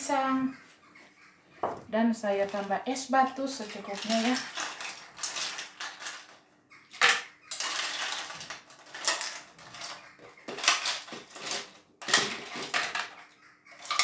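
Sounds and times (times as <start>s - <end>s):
ice cubes rattling: 2.4s - 14.0s.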